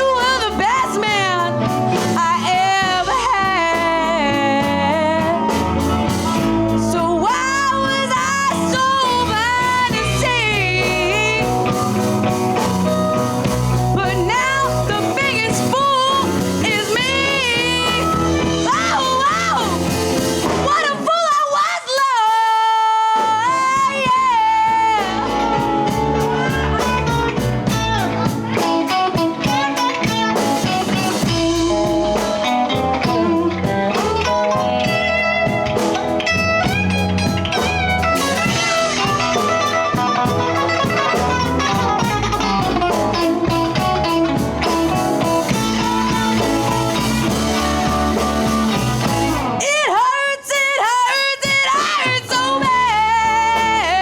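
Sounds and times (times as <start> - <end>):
electric guitar: 0.0 - 54.0
live blues band playing: 0.0 - 54.0.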